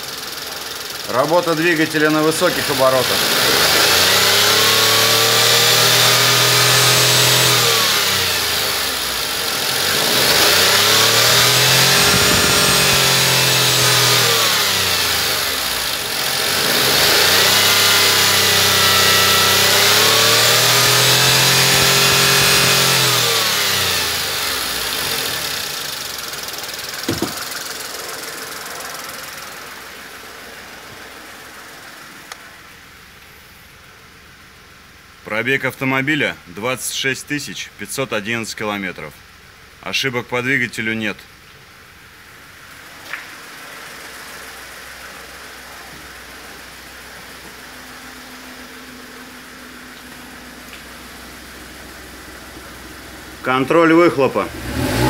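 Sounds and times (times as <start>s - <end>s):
car engine revving: 0.3s - 32.9s, 43.5s - 55.0s.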